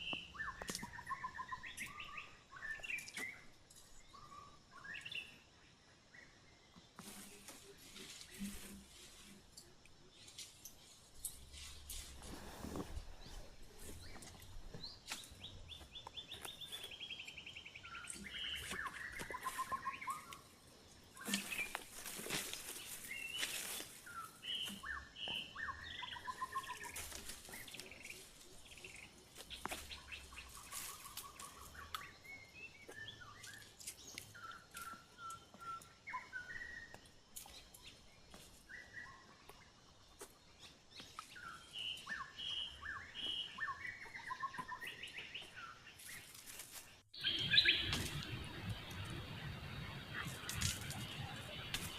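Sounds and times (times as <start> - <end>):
wild birds singing and calling: 0.0 - 51.9.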